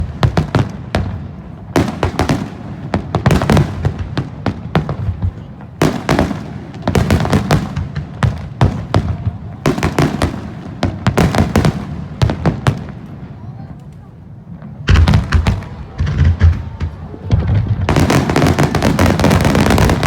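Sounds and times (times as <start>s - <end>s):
deep firework booms: 0.0s - 13.4s, 14.5s - 20.0s
fireworks bangs and crackles: 0.0s - 20.0s.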